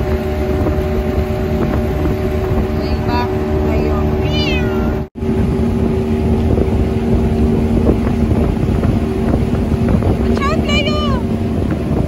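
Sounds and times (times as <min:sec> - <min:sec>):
outboard motor running: 0:00.0 - 0:12.0
water noise: 0:00.0 - 0:12.0
wind on microphone: 0:00.0 - 0:12.0.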